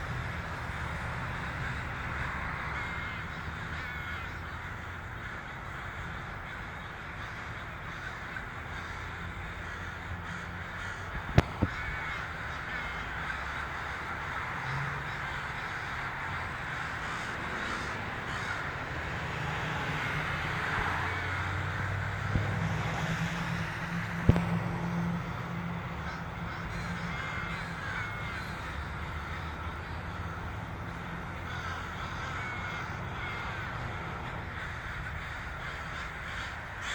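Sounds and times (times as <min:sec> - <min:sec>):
crows cawing: 0:00.0 - 0:36.9.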